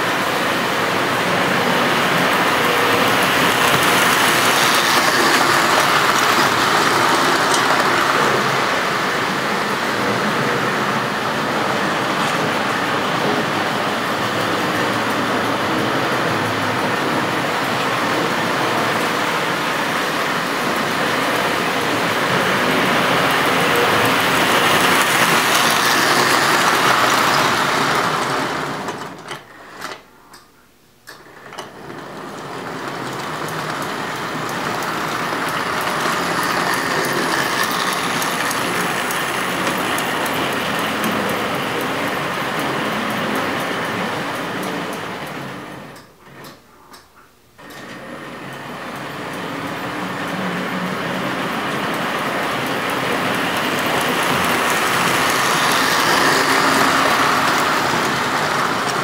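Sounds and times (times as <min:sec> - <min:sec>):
model train running on track: 0:00.0 - 0:30.4, 0:31.1 - 0:46.6, 0:47.6 - 0:59.0.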